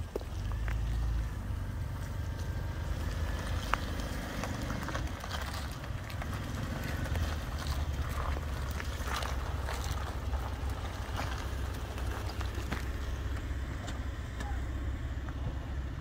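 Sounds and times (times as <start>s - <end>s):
tyres crunching over grit: 0.0s - 14.6s
car rolling with low engine rumble: 0.0s - 16.0s.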